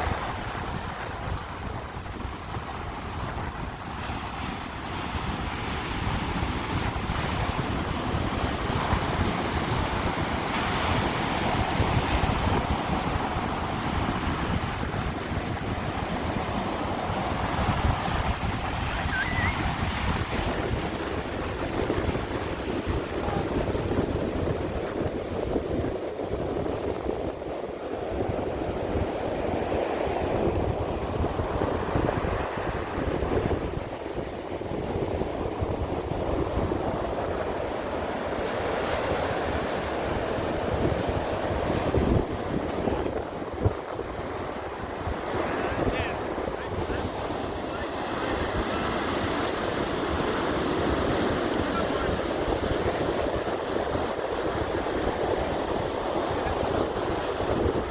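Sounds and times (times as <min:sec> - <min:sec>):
ocean surf washing: 0:00.0 - 0:57.9
wind buffeting microphone: 0:00.0 - 0:57.9.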